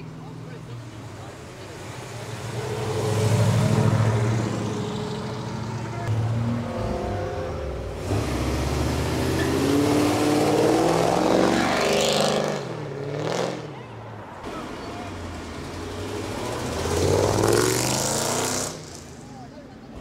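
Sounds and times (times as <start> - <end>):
car engines accelerating: 0.0 - 20.0.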